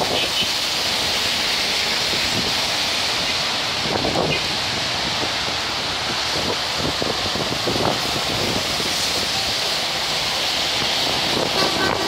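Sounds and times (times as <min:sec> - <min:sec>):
road traffic: 0:00.0 - 0:12.0
strong wind buffeting microphone: 0:02.0 - 0:12.0.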